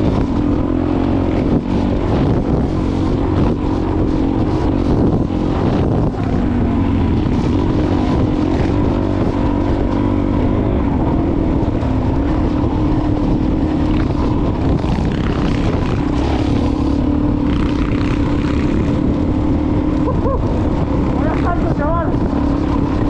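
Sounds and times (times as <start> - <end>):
off-road motorcycle engine: 0.0 - 23.0.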